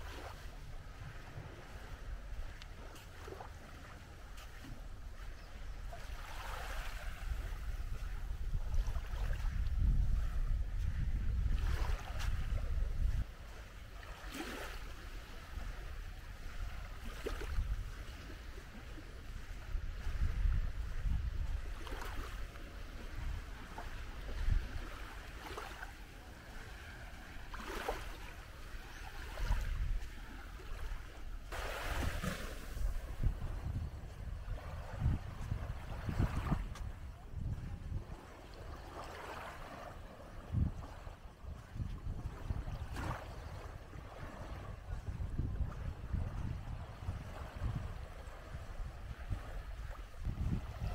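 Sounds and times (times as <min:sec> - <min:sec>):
small waves washing on beach: 0:00.0 - 0:50.9
wind rumbling on microphone: 0:00.0 - 0:50.9.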